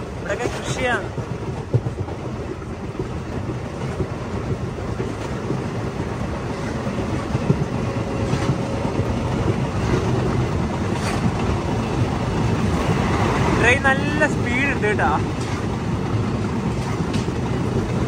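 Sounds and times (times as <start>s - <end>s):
train wheels clacking on rails: 0.0s - 18.0s.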